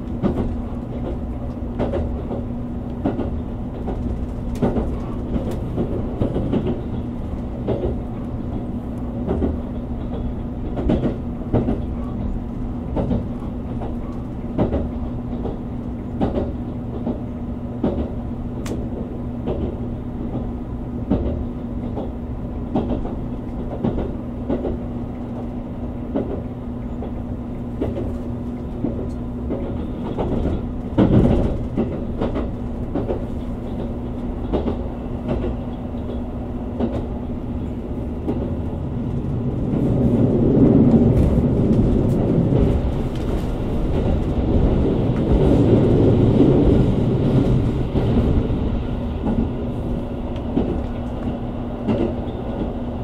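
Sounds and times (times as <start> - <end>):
wheels clicking over rail joints: 0.0 - 17.2, 21.1 - 25.5, 26.1 - 52.9
train interior hum: 0.0 - 53.0
train rumble: 0.0 - 53.0.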